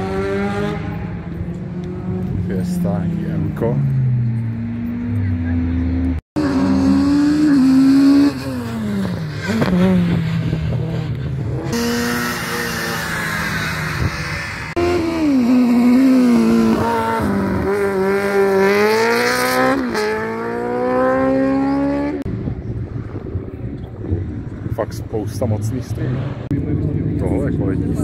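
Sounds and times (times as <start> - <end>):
race car engines revving past: 0.0 - 28.0.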